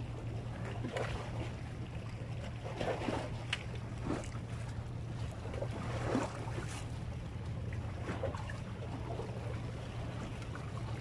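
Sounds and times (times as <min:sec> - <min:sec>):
wind and sea rumble: 0:00.0 - 0:11.0.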